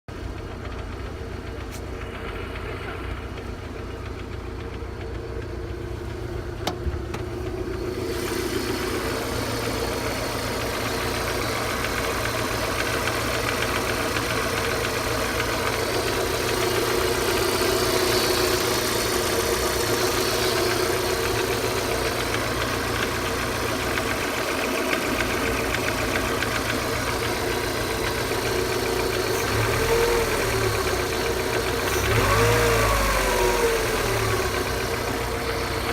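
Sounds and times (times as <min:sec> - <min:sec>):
car engine running with knock: 0:00.1 - 0:35.9.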